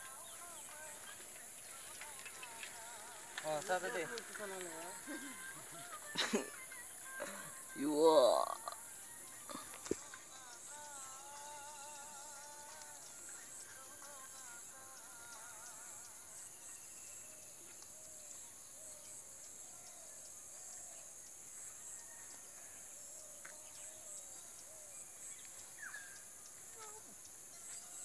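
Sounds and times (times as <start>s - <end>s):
high-pitched insect drone: 0.0s - 28.0s.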